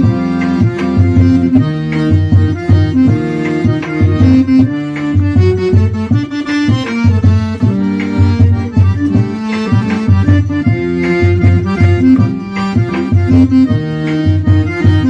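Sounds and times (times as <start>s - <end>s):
accordion melody: 0.0s - 15.0s
percussion: 0.0s - 15.0s.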